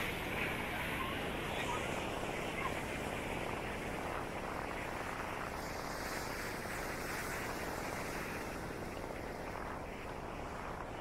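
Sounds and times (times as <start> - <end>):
sea waves washing onto beach: 0.0 - 11.0.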